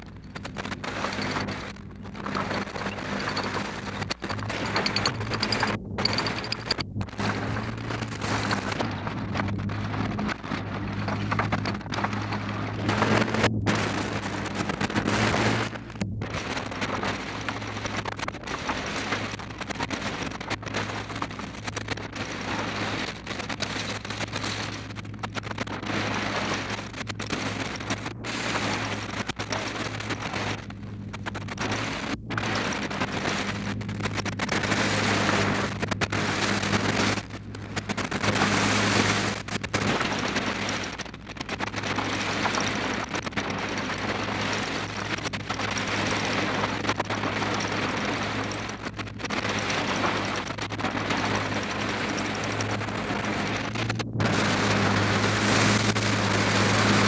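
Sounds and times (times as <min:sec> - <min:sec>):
crackly film soundtrack rush: 0:00.0 - 0:57.0
low hum: 0:00.0 - 0:57.0
threshing machine running: 0:00.0 - 0:57.0.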